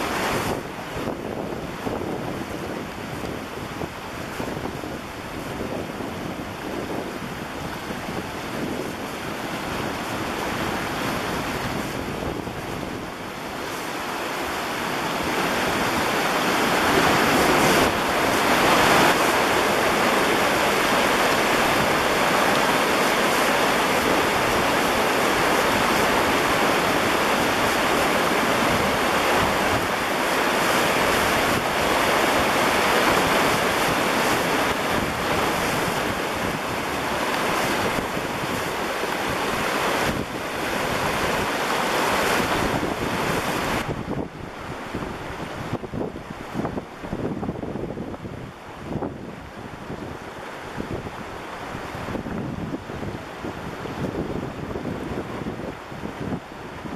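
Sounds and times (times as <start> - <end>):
water rushing through weir gates: 0.0 - 47.4.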